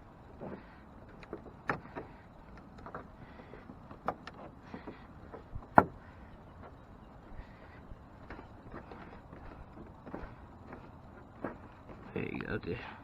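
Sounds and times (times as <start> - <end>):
parts clicking and knocking: 0.2 - 7.4, 8.2 - 12.2.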